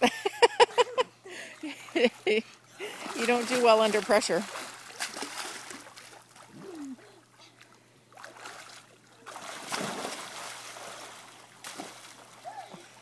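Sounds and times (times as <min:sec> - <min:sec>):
pool water splashing: 0:00.0 - 0:13.0.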